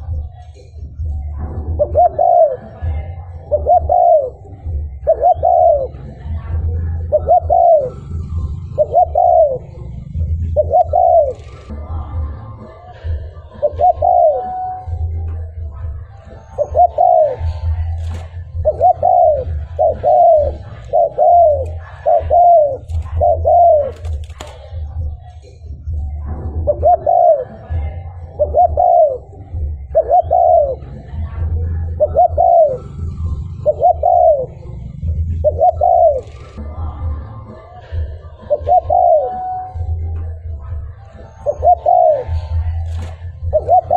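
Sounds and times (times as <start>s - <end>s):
dove cooing: 0.0s - 25.3s, 25.9s - 43.9s.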